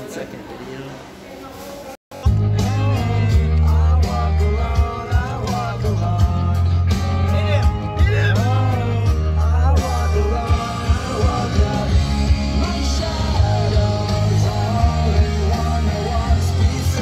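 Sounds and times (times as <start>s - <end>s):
heavy pulsing bass: 2.1s - 17.0s
person singing: 2.1s - 17.0s.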